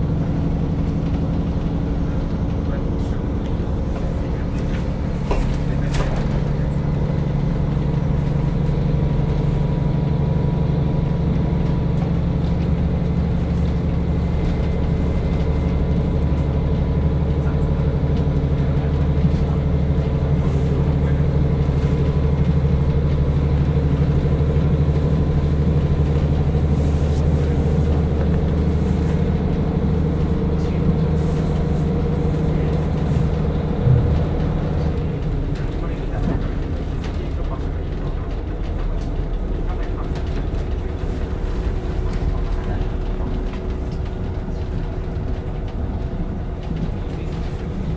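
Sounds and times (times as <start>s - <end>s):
diesel railcar engine droning: 0.0s - 47.9s.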